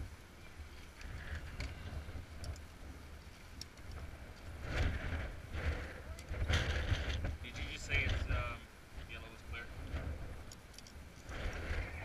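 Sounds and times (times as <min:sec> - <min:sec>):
wind buffeting microphone: 0:00.0 - 0:12.0
rustling and climbing gear clicks: 0:00.7 - 0:08.3, 0:09.8 - 0:12.0.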